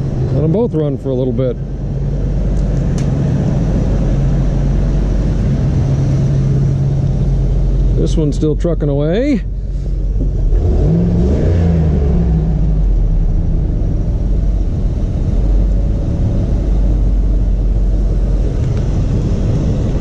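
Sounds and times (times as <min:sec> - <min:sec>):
pickup engine idling: 0:00.0 - 0:20.0.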